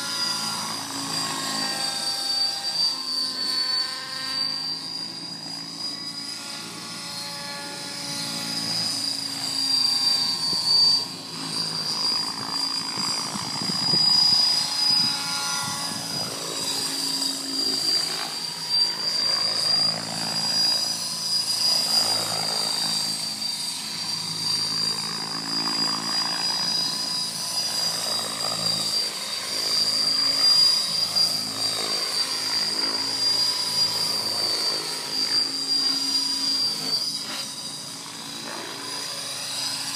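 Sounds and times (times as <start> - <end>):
helicopter rotor-blade whoosh: 0.0 - 39.9
steady high whine: 0.0 - 39.9.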